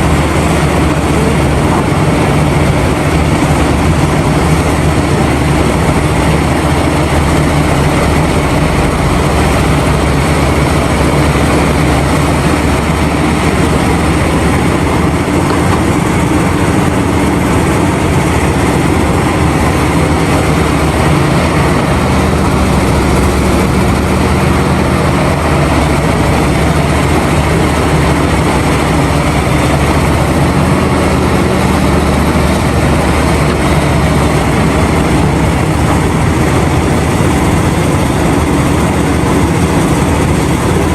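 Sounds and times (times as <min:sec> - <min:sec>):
heavy diesel engines droning: 0:00.0 - 0:40.9.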